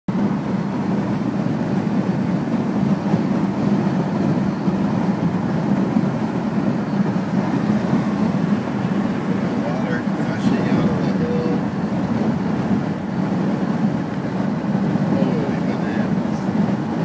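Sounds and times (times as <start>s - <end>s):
car driving at highway speed: 0.1s - 17.0s.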